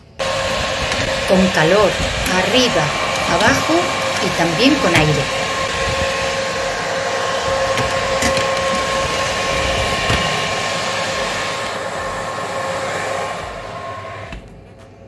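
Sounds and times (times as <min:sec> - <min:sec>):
oven fan whirring: 0:00.0 - 0:15.0.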